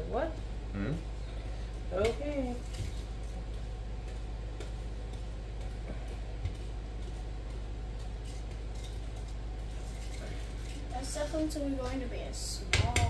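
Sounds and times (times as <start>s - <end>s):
steady low hum: 0.0s - 13.0s
utensil stirring batter in bowl: 1.8s - 13.0s.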